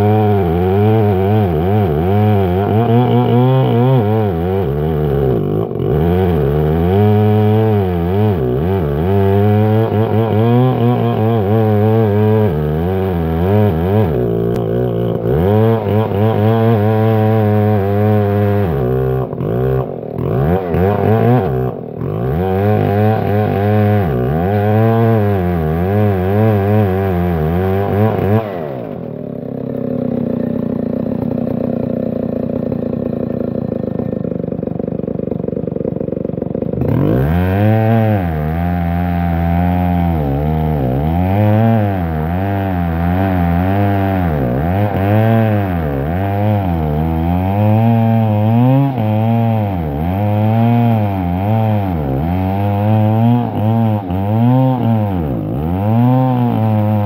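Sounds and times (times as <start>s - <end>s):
chainsaw cutting log: 0.0s - 57.0s
chainsaw idling: 0.0s - 57.0s.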